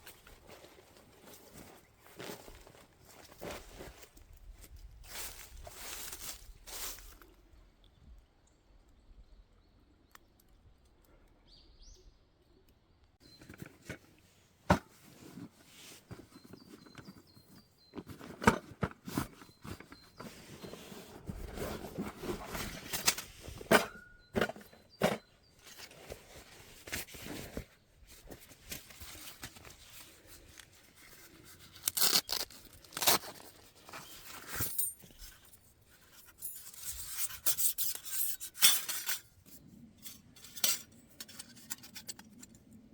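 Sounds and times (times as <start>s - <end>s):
handling rustling and crunching: 0.0s - 7.4s, 13.2s - 42.8s.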